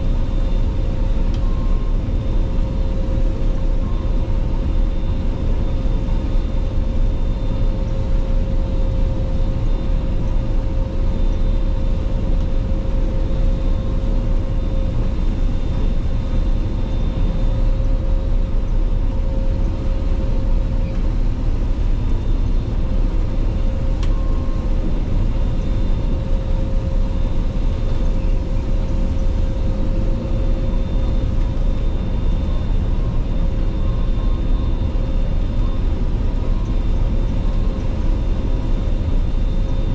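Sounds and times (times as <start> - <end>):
combine harvester drone: 0.0 - 39.9
steady machine whine: 0.0 - 39.9.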